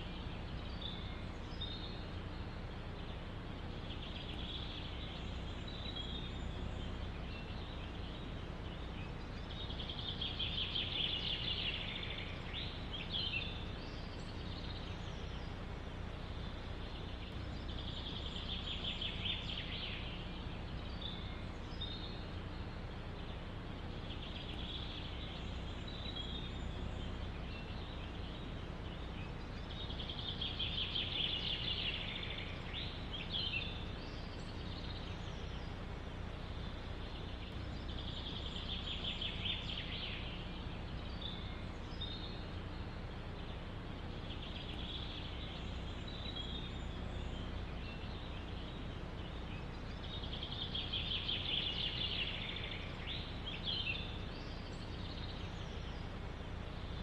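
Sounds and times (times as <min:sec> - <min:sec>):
songbird trilling: 0:00.0 - 0:57.0
wind through forest: 0:00.0 - 0:57.0.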